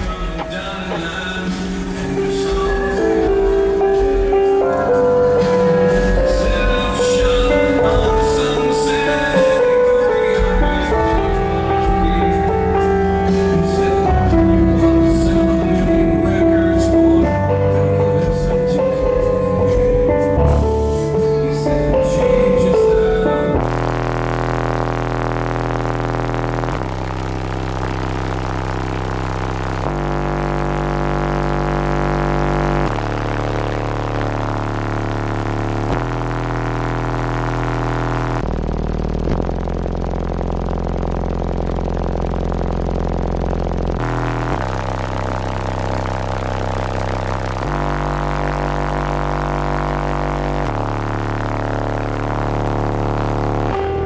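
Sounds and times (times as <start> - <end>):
loud held bass notes: 0.0 - 54.0.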